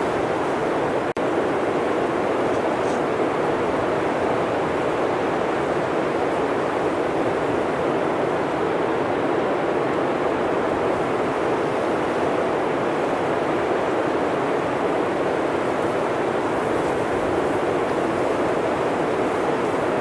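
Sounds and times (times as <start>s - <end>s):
blizzard wind rushing through forest: 0.0s - 20.0s.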